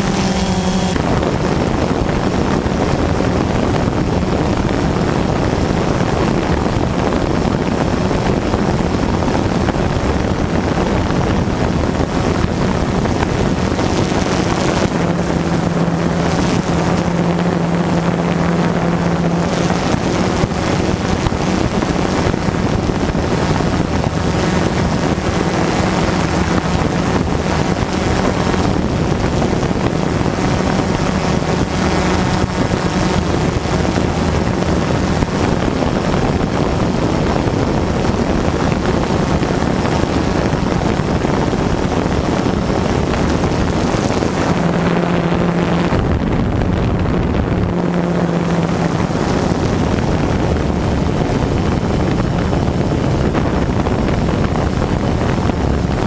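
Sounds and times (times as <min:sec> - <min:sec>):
drone propellers buzzing: 0:00.0 - 0:56.0
low hum: 0:00.0 - 0:56.0
wind on microphone: 0:00.0 - 0:56.0.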